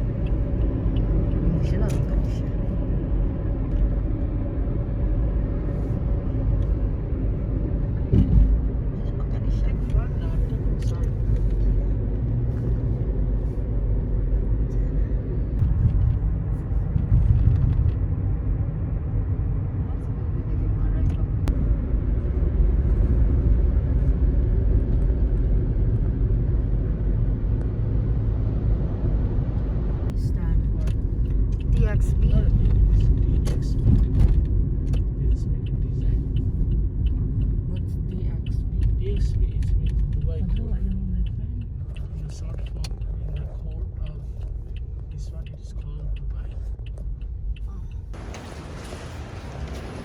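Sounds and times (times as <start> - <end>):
road vehicle rumble: 0.0 - 50.0.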